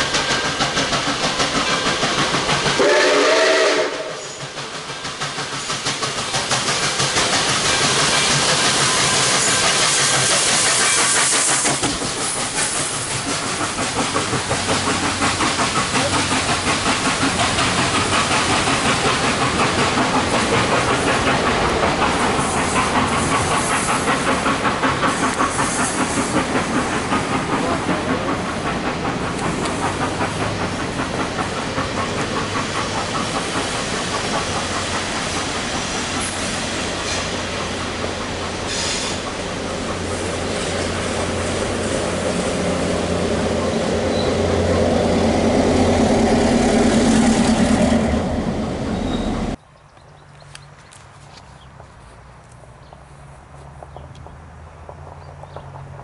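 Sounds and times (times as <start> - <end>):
steam hissing: 0.0 - 49.6
steam locomotive exhaust beat: 0.0 - 49.6
railway cars clattering: 0.0 - 56.0.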